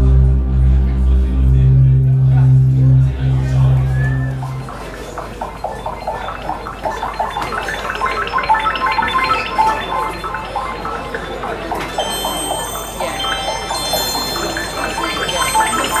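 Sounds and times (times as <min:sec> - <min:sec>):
high ringing tones: 0:00.0 - 0:16.0
plinking notes: 0:00.0 - 0:16.0.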